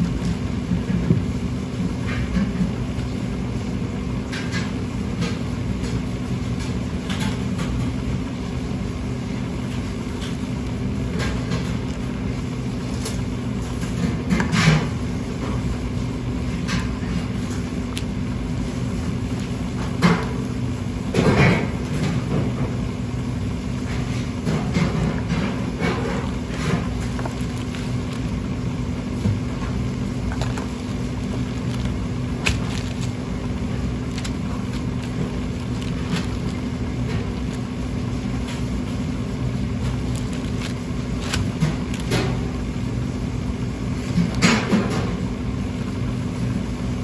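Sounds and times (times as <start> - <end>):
kitchen machinery hum: 0.0 - 47.0.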